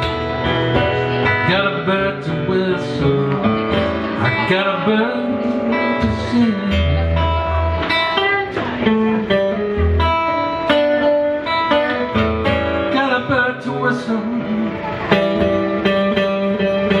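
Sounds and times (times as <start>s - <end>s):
acoustic guitar playing blues: 0.0s - 17.0s.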